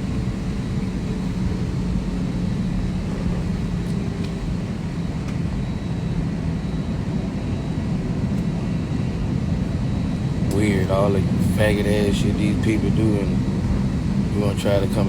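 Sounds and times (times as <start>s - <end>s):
airliner cabin drone: 0.0s - 15.0s.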